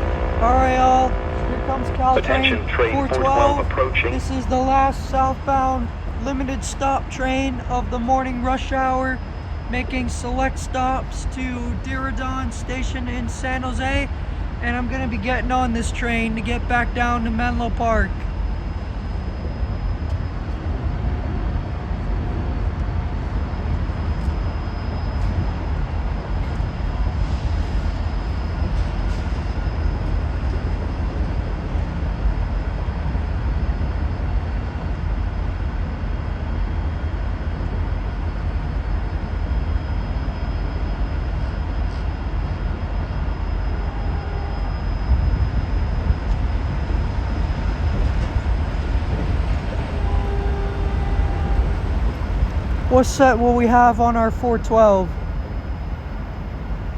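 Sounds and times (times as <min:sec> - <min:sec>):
train rumble: 0:00.0 - 0:56.9.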